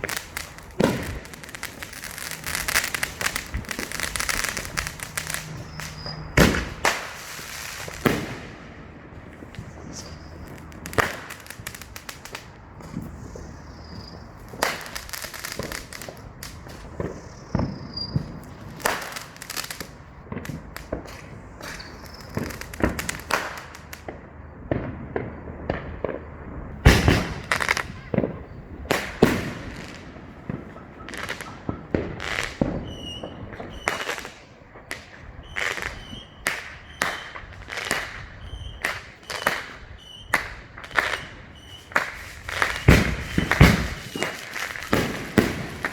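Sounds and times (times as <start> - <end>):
fireworks bangs and pops: 0.0 - 45.9.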